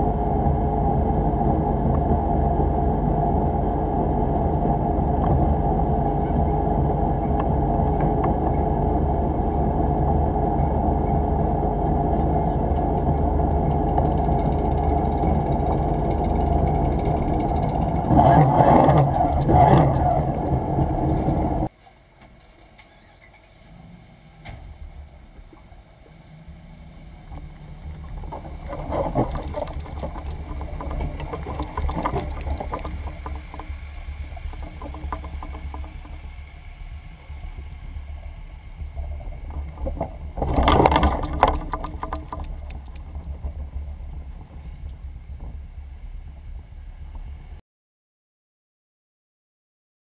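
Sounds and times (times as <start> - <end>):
watercraft engine rumble: 0.0 - 21.7, 22.9 - 47.6.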